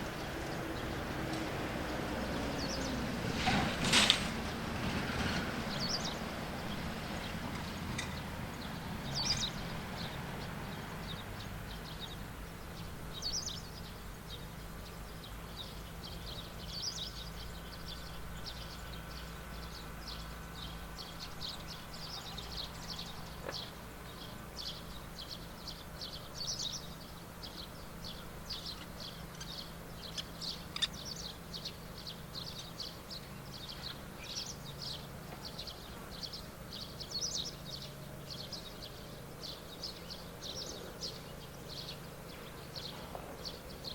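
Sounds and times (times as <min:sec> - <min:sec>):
small birds chirping: 0:00.0 - 0:03.1, 0:05.7 - 0:43.9.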